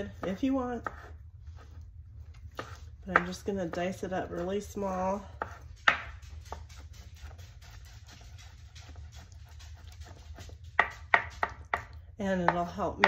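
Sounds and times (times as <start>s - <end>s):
knife chopping on plastic board: 0.0s - 1.7s, 2.4s - 4.5s, 5.3s - 13.0s.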